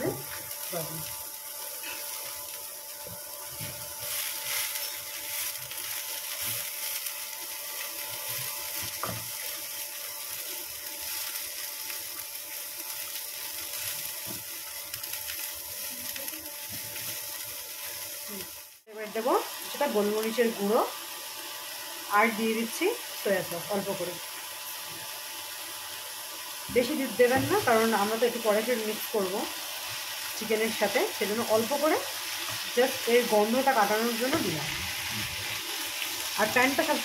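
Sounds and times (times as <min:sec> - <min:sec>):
cabbage sizzling in oil: 0:00.0 - 0:37.0.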